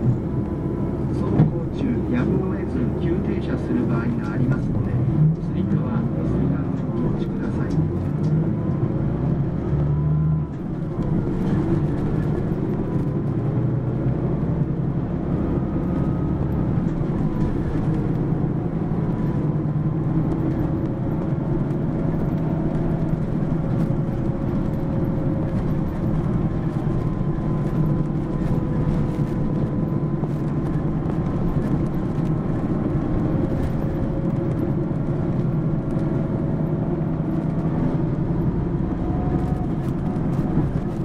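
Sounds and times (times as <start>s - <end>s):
diesel bus engine humming: 0.0s - 41.0s.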